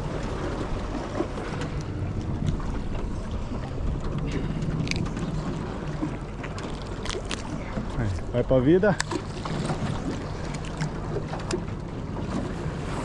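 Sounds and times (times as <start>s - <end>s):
water sloshing against boat hull: 0.0s - 13.0s.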